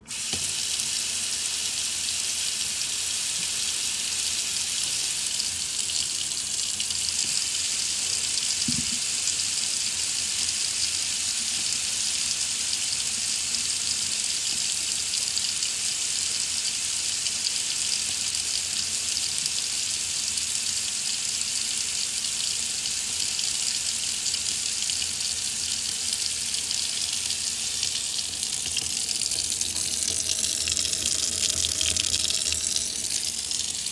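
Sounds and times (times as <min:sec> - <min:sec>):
water faucet running: 0:00.0 - 0:33.9.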